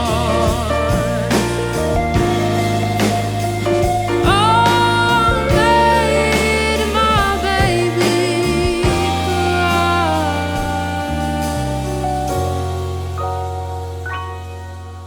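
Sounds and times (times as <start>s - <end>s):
held bass notes: 0.0s - 15.0s
piano chords: 0.0s - 15.0s
sliding melody line: 0.0s - 15.0s.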